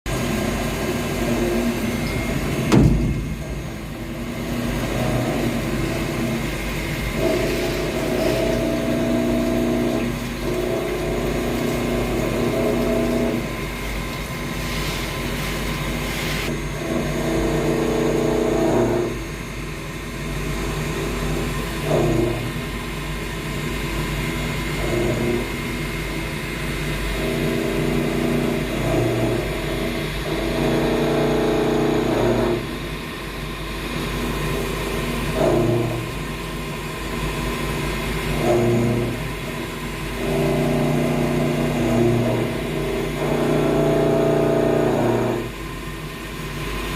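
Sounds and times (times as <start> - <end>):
mill cutting copper: 0.1 - 19.5, 20.3 - 46.9
milling machine motor hum: 0.1 - 46.9.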